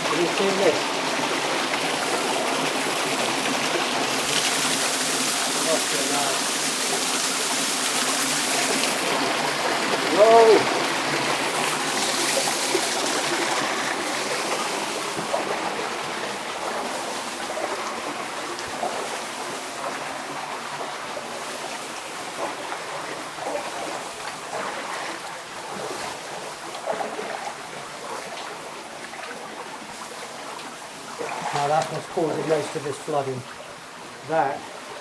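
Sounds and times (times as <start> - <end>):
small splashes: 0.0 - 34.7
water rushing into tunnel: 0.0 - 35.0.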